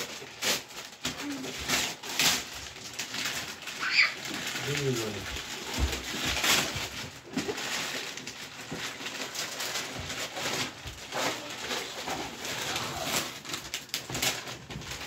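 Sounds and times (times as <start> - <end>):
wrapping paper crinkling and tearing: 0.0 - 15.0.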